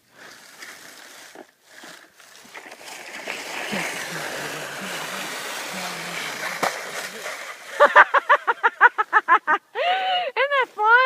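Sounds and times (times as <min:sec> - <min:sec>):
sled scraping over ice: 0:00.0 - 0:09.5.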